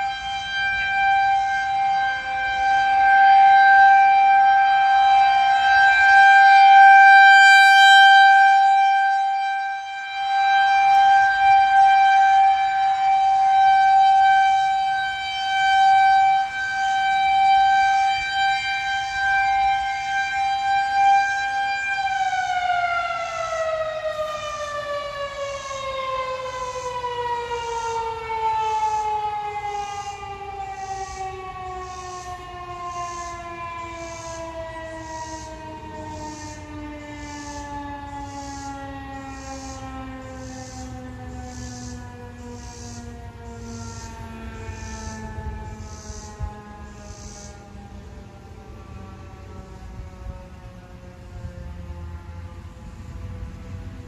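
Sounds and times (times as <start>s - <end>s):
warning siren wailing: 0.0s - 54.0s.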